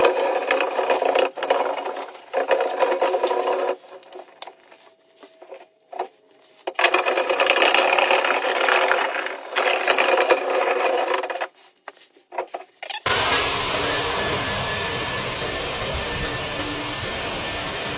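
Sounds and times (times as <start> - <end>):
dryer vent scraping and rattling: 0.0 - 17.9.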